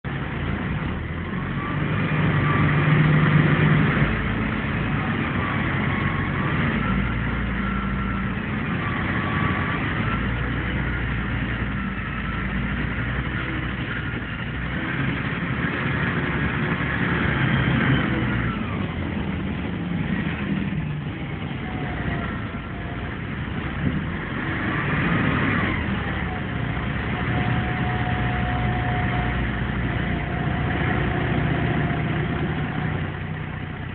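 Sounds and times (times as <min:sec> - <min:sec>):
bus engine whine from inside: 0:00.0 - 0:33.9.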